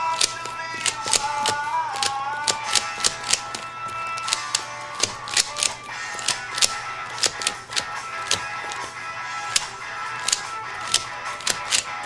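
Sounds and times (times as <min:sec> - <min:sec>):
music: 0:00.0 - 0:12.0
plastic puzzle cube clacking: 0:00.0 - 0:12.0.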